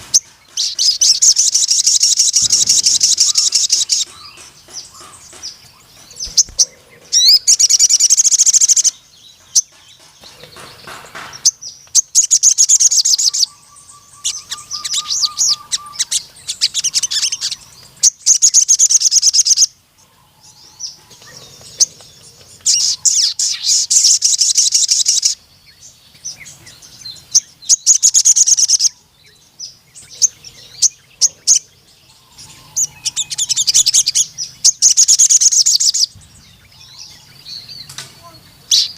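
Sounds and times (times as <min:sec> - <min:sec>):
bird trilling: 0:00.0 - 0:25.4, 0:26.5 - 0:38.9.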